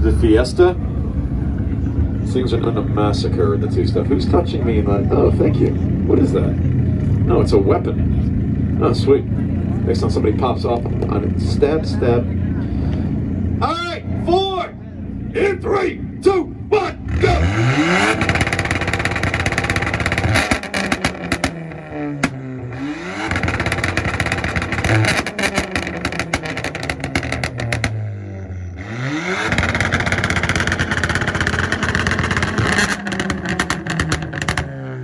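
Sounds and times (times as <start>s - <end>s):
car engine on rev limiter: 0.0s - 35.0s
exhaust popping and crackling: 0.0s - 35.0s.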